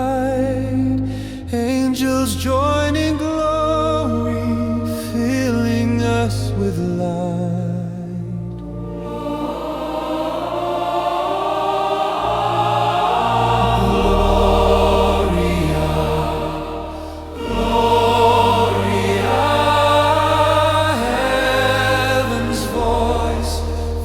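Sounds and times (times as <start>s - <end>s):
deep held chords: 0.0s - 24.0s
choir singing sustained notes: 2.7s - 24.0s.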